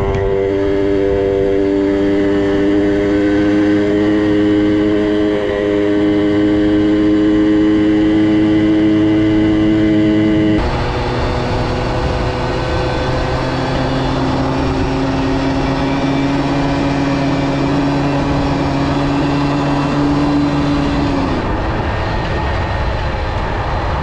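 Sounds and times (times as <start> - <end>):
minibike engine running: 0.0 - 24.0.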